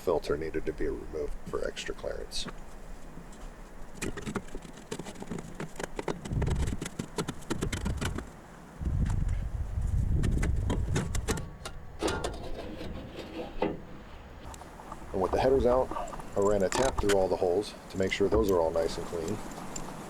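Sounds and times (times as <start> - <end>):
low rumbling handling noise: 0.0 - 20.0.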